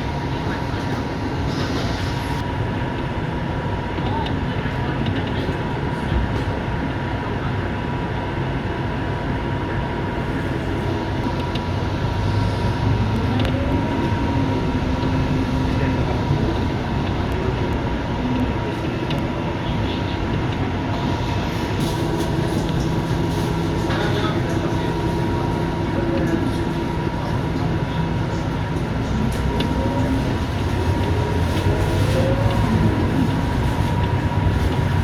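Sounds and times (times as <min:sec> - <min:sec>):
bus diesel engine running: 0:00.0 - 0:35.0
road rumble: 0:03.9 - 0:35.0.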